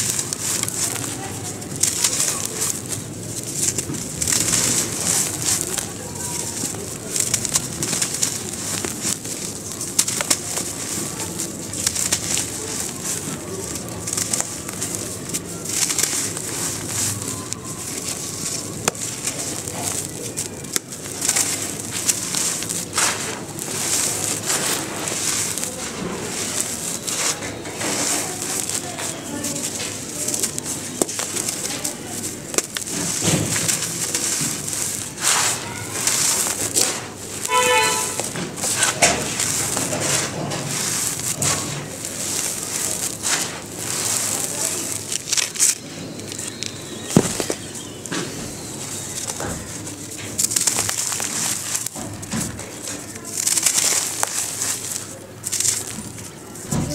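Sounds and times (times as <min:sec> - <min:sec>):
dry sand sifting through fingers: 0:00.0 - 0:56.9
sand-cement lumps crunching in hands: 0:00.0 - 0:56.9.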